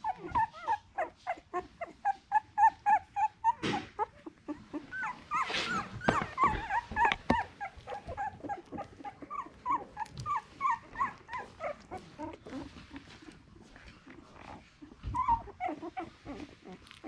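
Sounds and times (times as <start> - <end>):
puppies squeaking and whimpering: 0.0 - 17.0.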